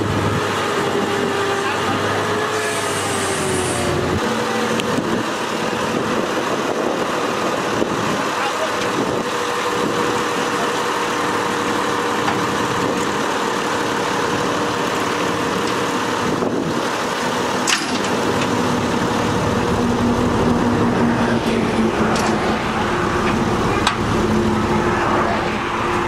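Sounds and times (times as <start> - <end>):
crane diesel engine under load: 0.0 - 26.0.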